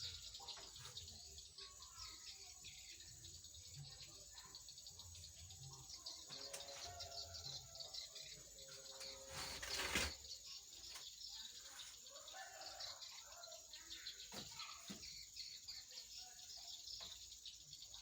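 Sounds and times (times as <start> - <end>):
bird chirps: 0.0 - 18.0
crickets trilling: 0.0 - 18.0.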